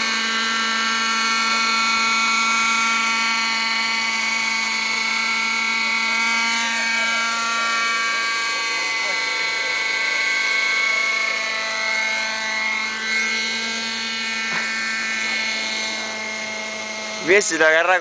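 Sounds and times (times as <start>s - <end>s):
model helicopter engine whine: 0.0s - 18.0s.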